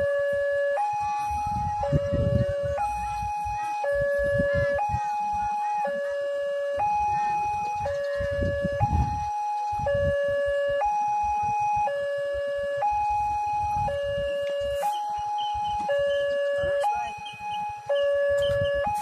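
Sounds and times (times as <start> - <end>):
two-tone level crossing alarm: 0.0 - 19.0.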